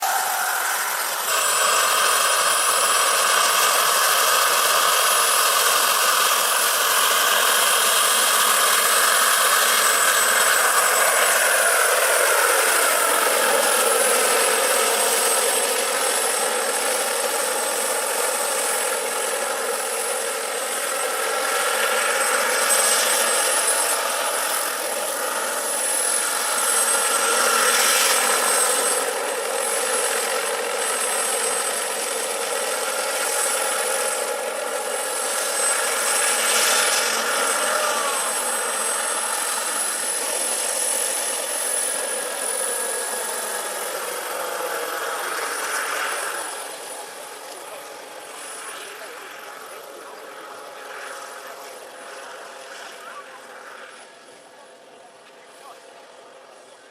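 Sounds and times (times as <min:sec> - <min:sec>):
helicopter rotor: 0:00.0 - 0:56.9
model helicopter turbine whine: 0:00.0 - 0:56.9.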